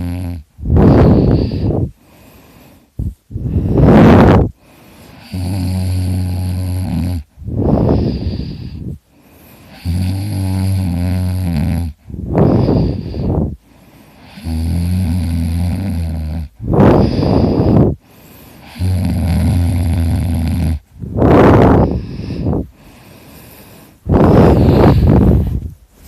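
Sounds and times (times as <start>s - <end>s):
person snoring: 0.0s - 2.8s, 3.4s - 9.0s, 9.6s - 25.6s.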